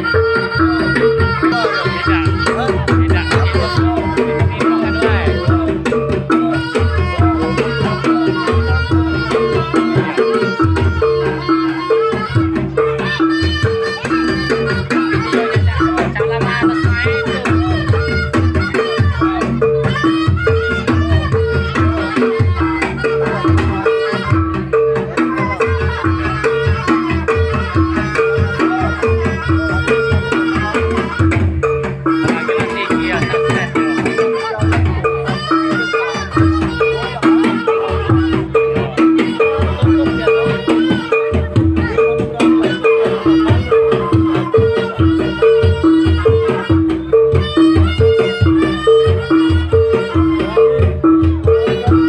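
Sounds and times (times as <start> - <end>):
hand drums beating quickly: 0.0 - 52.0
high reedy melody lines: 0.0 - 52.0
repeating two-note melody: 0.0 - 52.0.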